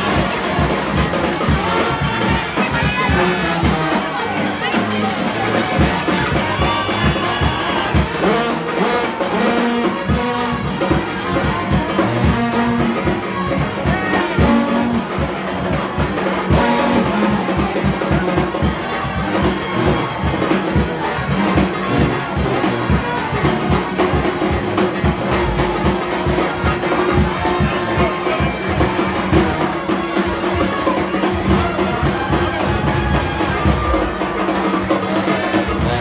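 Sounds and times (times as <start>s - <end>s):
driving drum beat: 0.0s - 36.0s
trumpets and trombones: 0.0s - 36.0s.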